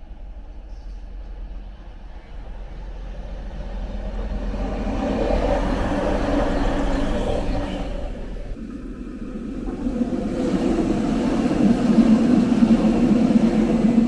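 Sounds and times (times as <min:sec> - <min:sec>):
diesel train passing: 0:00.0 - 0:14.0.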